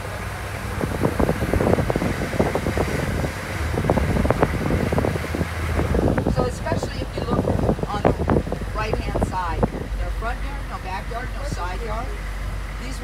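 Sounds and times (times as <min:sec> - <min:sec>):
vehicle engine low hum: 0:00.0 - 0:13.0
wind buffeting microphone: 0:00.0 - 0:13.0.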